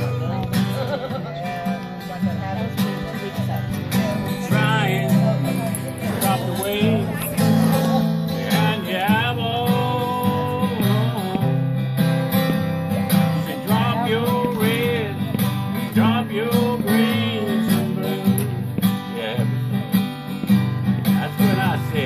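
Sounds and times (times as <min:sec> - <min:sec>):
acoustic guitars playing: 0:00.0 - 0:22.0.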